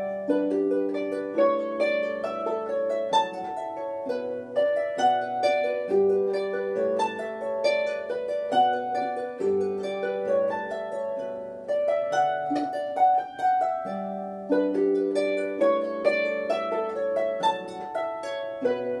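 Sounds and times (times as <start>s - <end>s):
harp playing a tune: 0.0s - 19.0s.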